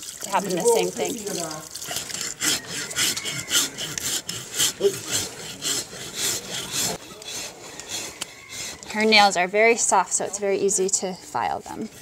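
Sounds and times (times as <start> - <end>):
hand file rasping on toenail: 1.9 - 12.0.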